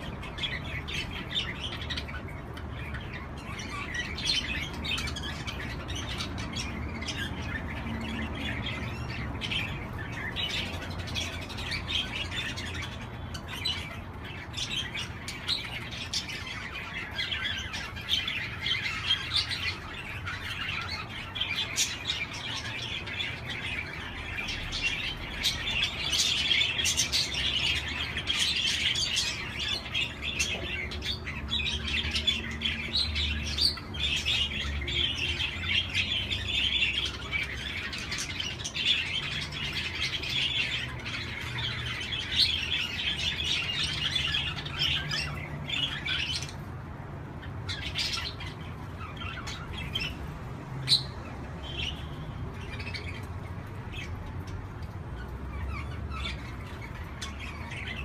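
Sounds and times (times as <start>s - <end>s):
budgerigars chattering: 0.0s - 46.7s, 47.4s - 50.2s, 55.2s - 58.0s.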